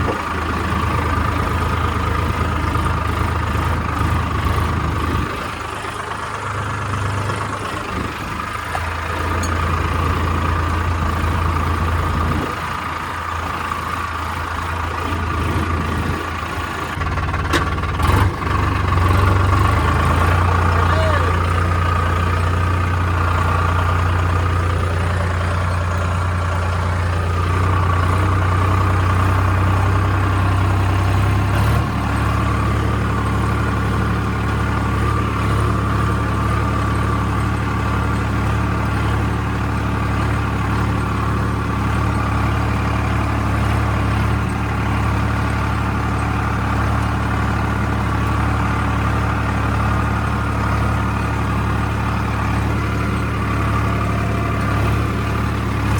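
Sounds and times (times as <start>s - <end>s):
tractor diesel engine idling: 0.0s - 55.9s.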